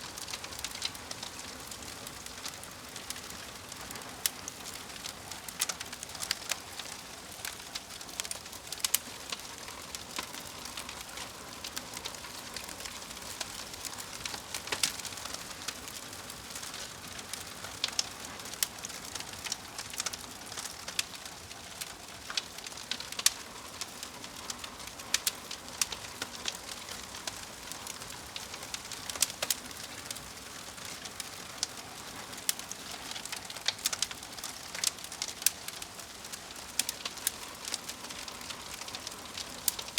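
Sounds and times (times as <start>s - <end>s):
soft hiss of burning: 0.0s - 39.9s
wood fire crackling: 0.0s - 39.9s.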